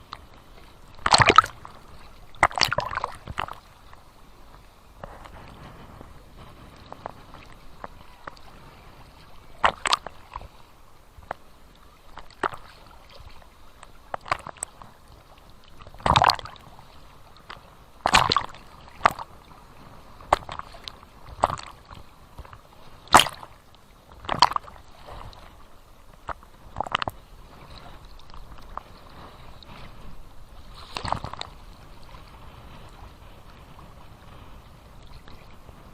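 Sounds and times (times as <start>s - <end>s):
small waves splashing and lapping: 0.0s - 35.9s.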